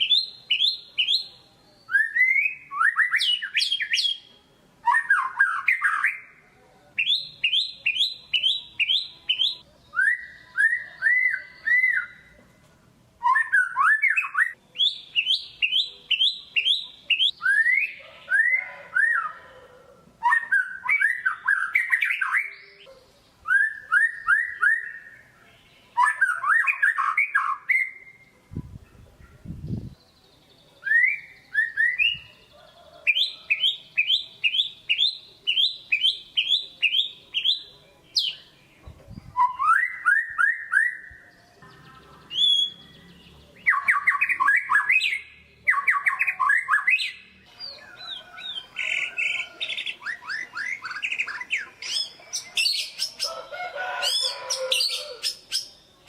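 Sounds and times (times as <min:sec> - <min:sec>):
bird singing whistled phrases: 0:00.0 - 0:06.4, 0:07.0 - 0:12.3, 0:13.2 - 0:19.4, 0:20.2 - 0:28.3, 0:30.8 - 0:32.4, 0:33.1 - 0:38.5, 0:39.2 - 0:41.2, 0:42.3 - 0:42.9, 0:43.6 - 0:53.3.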